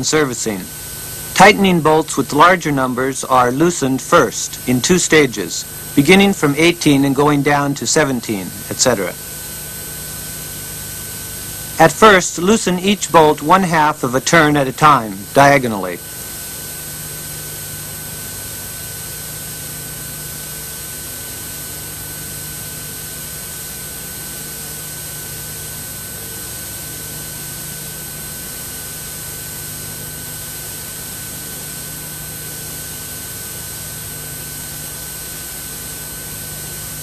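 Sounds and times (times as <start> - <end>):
faint high whine: 0.0 - 37.0
tape hiss: 0.0 - 37.0.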